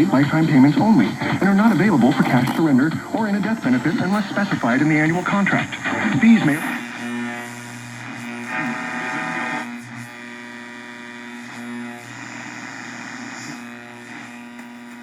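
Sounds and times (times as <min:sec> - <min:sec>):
electrical hum from radio speaker: 0:00.0 - 0:15.0.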